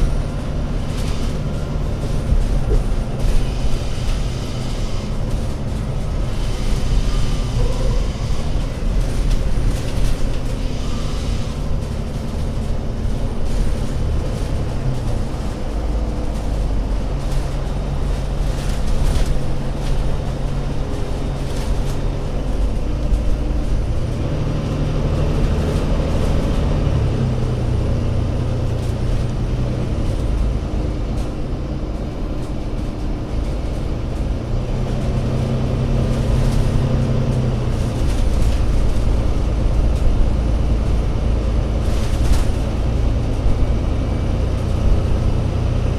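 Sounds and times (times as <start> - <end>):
bus engine drone: 0.0 - 45.9.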